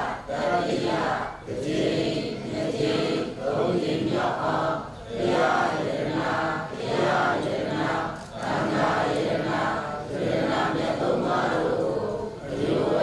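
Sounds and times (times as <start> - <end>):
congregation chanting in unison: 0.0 - 13.0.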